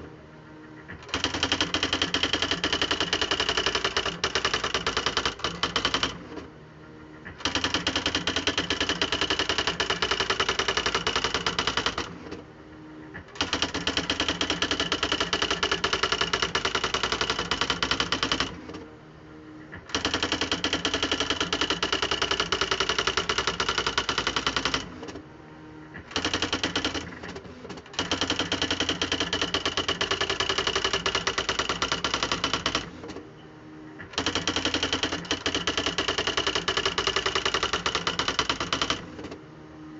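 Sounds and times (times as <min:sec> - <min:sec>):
typewriter motor hum: 0:00.7 - 0:18.9, 0:19.6 - 0:33.3, 0:33.9 - 0:39.4
electric typewriter typing: 0:00.9 - 0:06.5, 0:07.2 - 0:12.4, 0:13.1 - 0:18.8, 0:19.7 - 0:25.2, 0:25.9 - 0:33.2, 0:34.0 - 0:39.4.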